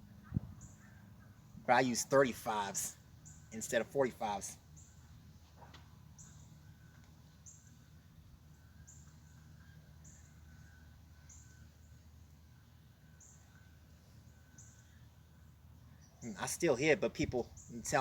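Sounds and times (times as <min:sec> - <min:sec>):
faint bird chirping: 0:00.0 - 0:18.0
low steady background hum: 0:00.0 - 0:18.0.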